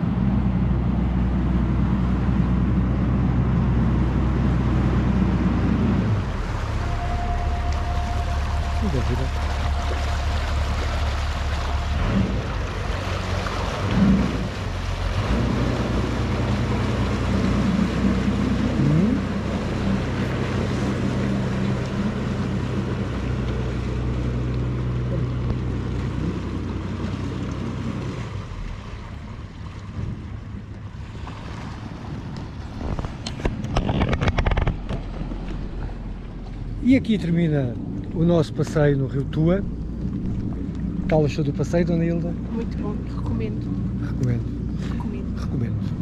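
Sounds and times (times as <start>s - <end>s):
boat engine running: 0.0s - 46.0s
wind and water noise: 0.0s - 46.0s.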